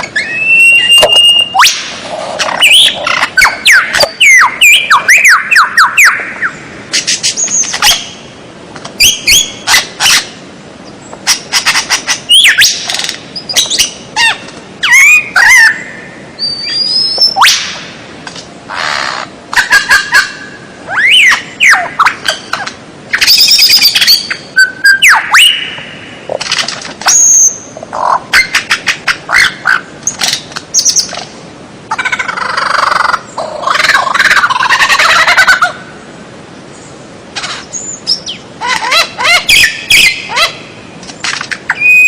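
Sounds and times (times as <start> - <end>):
songbird chirps and trills: 0.0 - 42.0.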